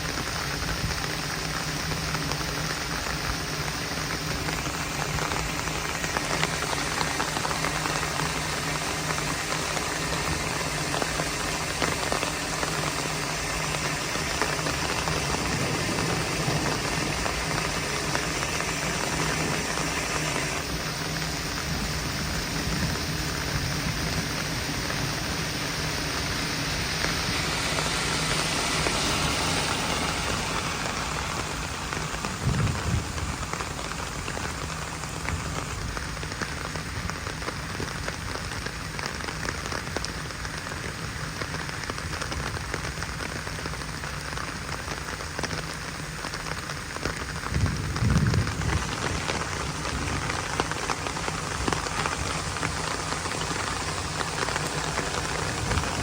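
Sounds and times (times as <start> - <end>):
heavy rain falling: 0.0 - 56.0
low rumbles: 0.1 - 39.8, 45.4 - 56.0.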